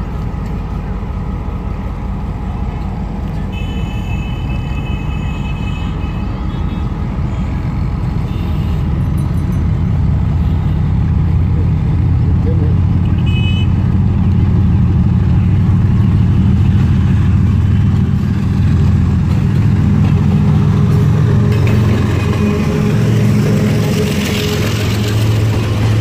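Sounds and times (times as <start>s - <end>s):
diesel locomotive passing: 0.0s - 26.0s.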